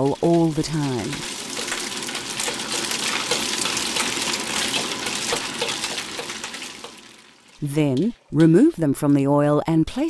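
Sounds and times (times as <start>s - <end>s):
food sizzling in hot oil: 0.0s - 8.4s.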